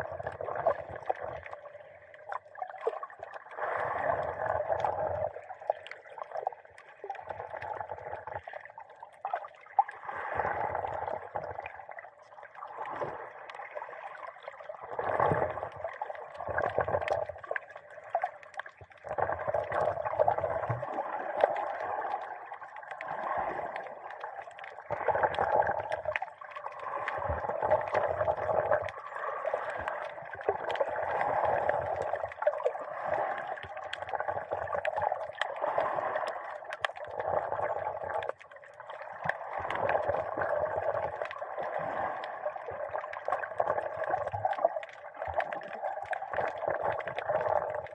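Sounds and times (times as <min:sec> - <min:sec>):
water sloshing underwater: 0:00.0 - 0:47.9.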